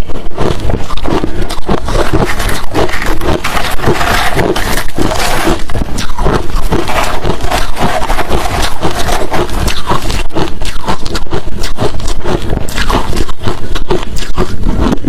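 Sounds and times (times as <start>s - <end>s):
ice being chewed: 0.0s - 15.0s.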